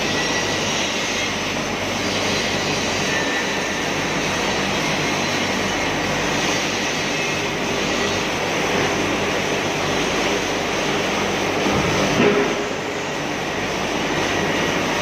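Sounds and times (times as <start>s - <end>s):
low machine hum: 0.0s - 15.0s
welding arc hissing: 0.0s - 15.0s.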